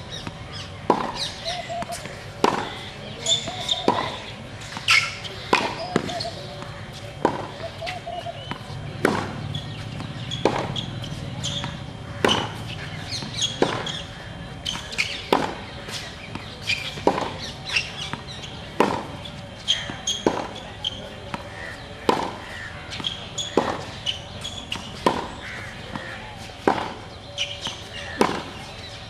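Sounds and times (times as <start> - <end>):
racket hitting tennis ball: 0.1 - 28.9
tennis ball bouncing: 0.1 - 29.0.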